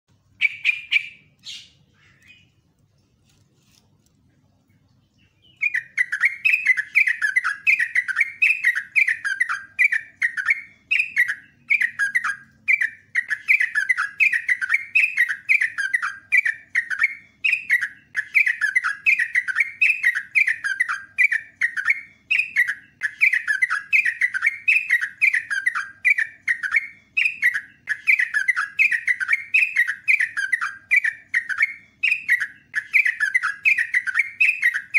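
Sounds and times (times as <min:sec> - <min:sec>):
bulbul singing: 0:00.1 - 0:03.1, 0:04.6 - 0:34.9.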